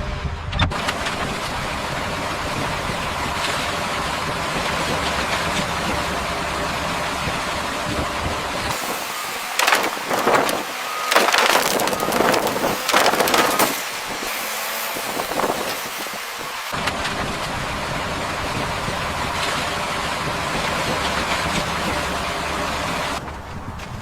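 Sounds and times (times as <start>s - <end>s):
heavy machinery engine running: 0.0s - 24.0s
loud irregular bursts of noise: 0.7s - 20.8s.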